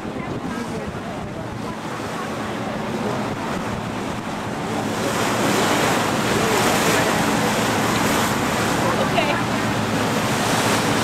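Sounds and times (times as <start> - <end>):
water rushing past boat: 0.0 - 11.0
wind buffeting microphone: 0.0 - 11.0.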